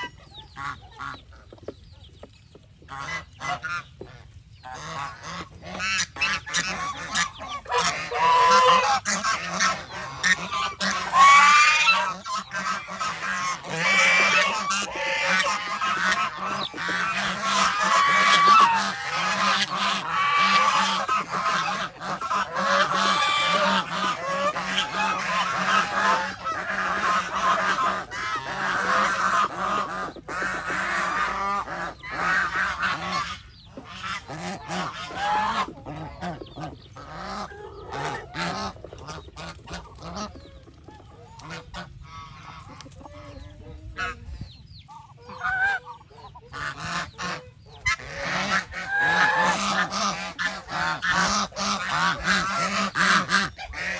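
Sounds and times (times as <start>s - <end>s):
geese honking: 0.0s - 1.7s, 2.8s - 53.9s.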